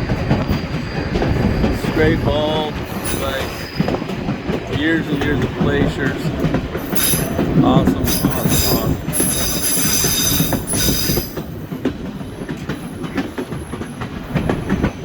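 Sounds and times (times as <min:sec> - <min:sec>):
train rumbling over track joints: 0:00.0 - 0:15.0
train wheels squealing on rail: 0:00.0 - 0:15.0.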